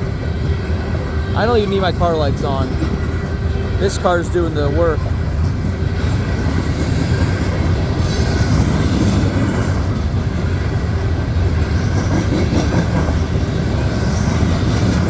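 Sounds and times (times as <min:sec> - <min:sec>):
freight train wheels rumbling on rails: 0:00.0 - 0:15.0.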